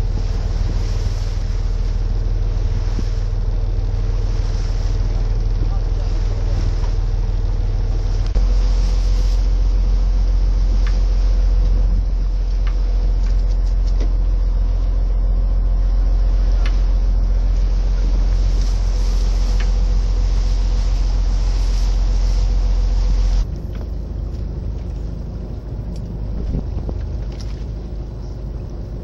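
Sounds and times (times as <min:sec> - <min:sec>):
motor running with low rumble: 0:00.0 - 0:29.0.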